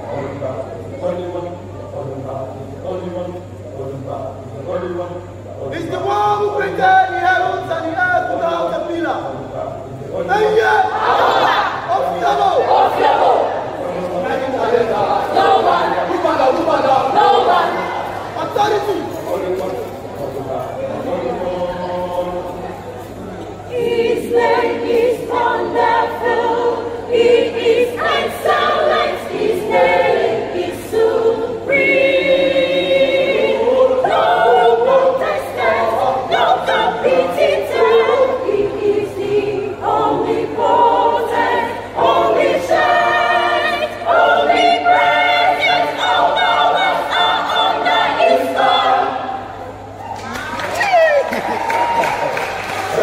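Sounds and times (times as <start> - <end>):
choir singing gospel: 0.0 - 53.0.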